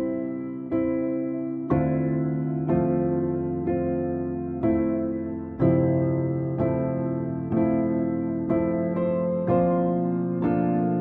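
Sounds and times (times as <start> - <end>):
slow soft piano chords: 0.0 - 11.0.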